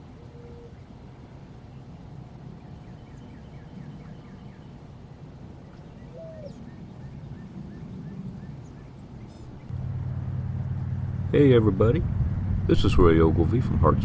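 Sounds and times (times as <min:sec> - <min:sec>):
birds chirping: 0:00.0 - 0:14.0
low background rumble: 0:00.0 - 0:14.0.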